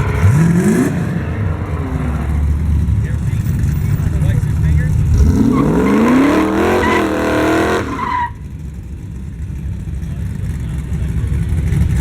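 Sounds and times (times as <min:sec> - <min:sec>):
drag racing car engines rumbling: 0:00.0 - 0:12.0.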